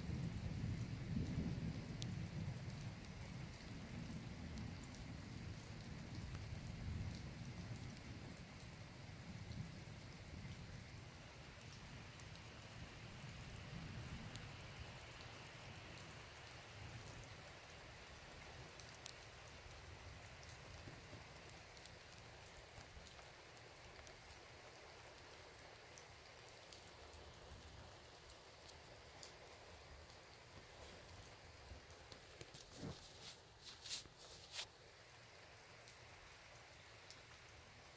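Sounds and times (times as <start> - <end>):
low storm rumble: 0.0 - 33.6
light drips: 0.1 - 37.9
insects chirping: 6.2 - 37.8.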